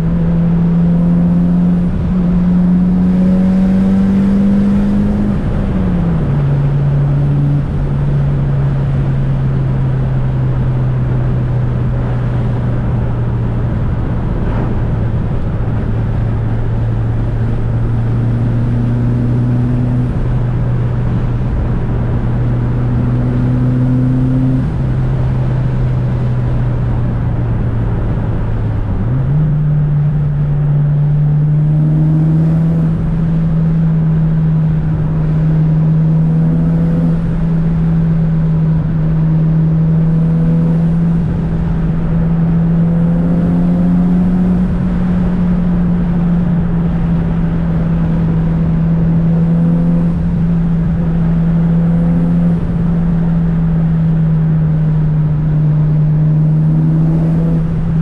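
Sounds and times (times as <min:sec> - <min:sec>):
turbocharged car engine droning: 0:00.0 - 0:58.0.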